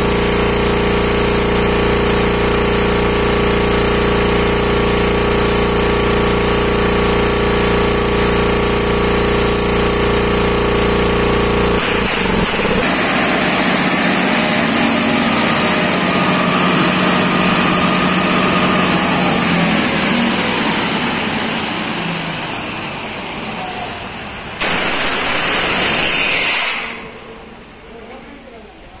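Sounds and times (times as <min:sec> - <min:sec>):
air compressor droning: 0:00.0 - 0:28.0.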